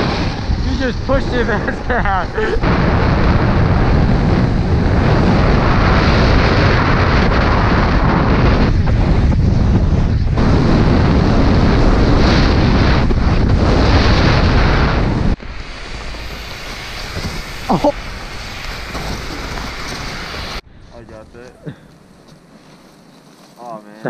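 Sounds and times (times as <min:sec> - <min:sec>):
wind rush on microphone: 0:00.0 - 0:21.8
snowboard scraping over snow: 0:00.0 - 0:24.0.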